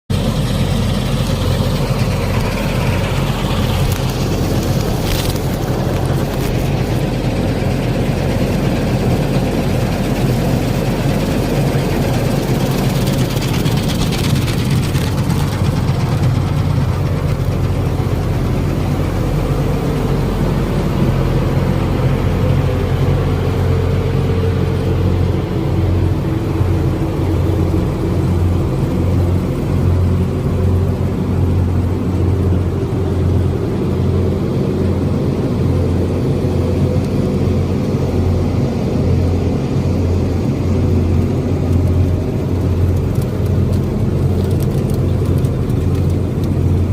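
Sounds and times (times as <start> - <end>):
farm machine engine humming: 0.1 - 46.9.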